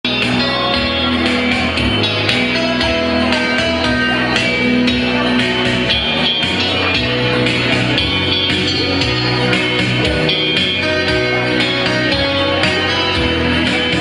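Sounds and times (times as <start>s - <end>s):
instrumental pop music: 0.0s - 14.0s.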